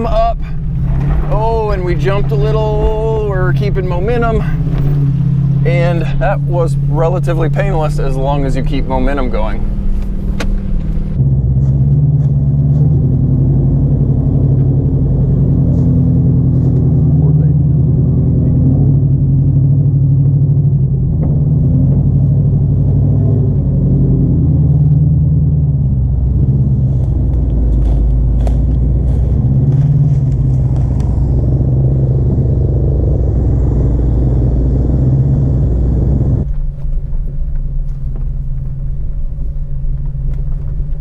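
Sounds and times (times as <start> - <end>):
engine running under load: 0.0 - 41.0.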